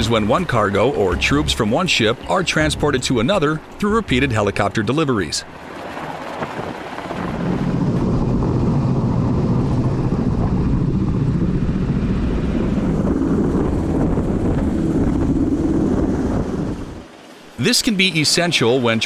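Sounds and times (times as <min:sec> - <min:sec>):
helicopter hovering overhead: 0:00.0 - 0:17.8.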